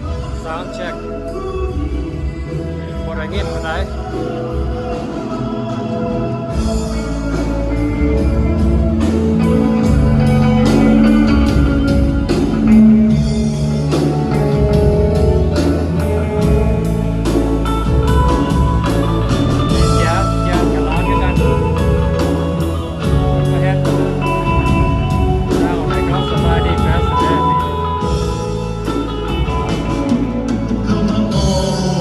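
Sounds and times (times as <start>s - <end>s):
bass guitar: 0.0s - 32.0s
drum kit: 0.0s - 32.0s
electric guitar: 0.0s - 32.0s.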